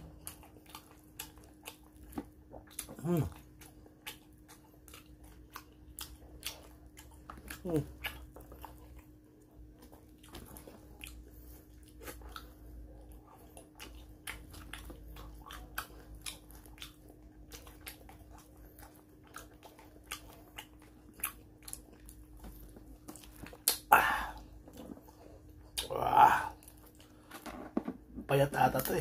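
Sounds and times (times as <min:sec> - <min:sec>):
food picked apart and chewed: 0:00.0 - 0:29.0.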